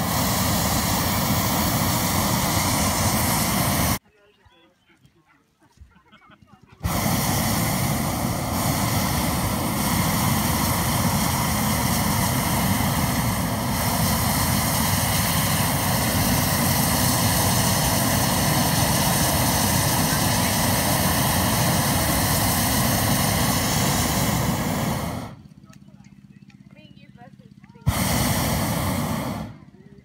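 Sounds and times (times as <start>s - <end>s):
propane burner firing: 0.0s - 4.0s, 6.8s - 25.6s, 27.8s - 29.9s.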